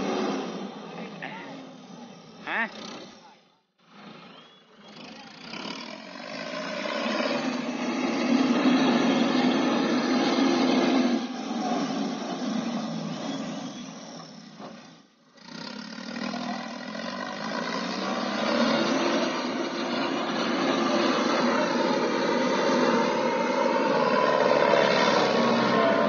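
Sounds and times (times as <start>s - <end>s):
combine harvester engine: 0.0s - 26.0s.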